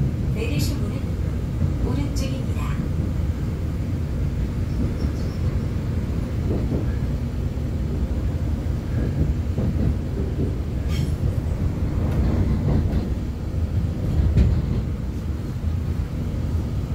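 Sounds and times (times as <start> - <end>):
train carriage rumble: 0.0 - 16.9.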